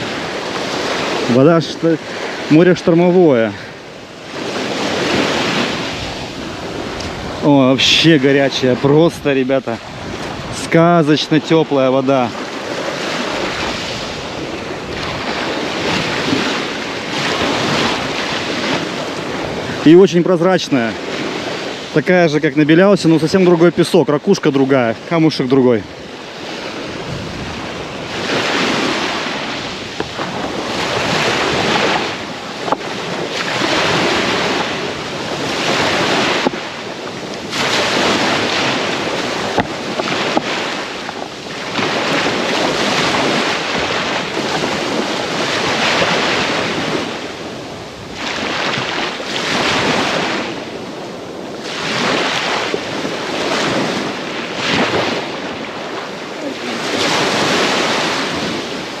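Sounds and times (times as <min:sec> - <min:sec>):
surf breaking on pebble beach: 0:00.0 - 0:59.0
wind buffeting microphone: 0:00.0 - 0:59.0.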